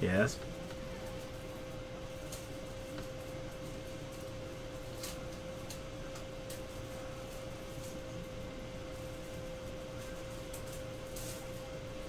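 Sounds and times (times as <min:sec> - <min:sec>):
constant hum: 0:00.0 - 0:12.0.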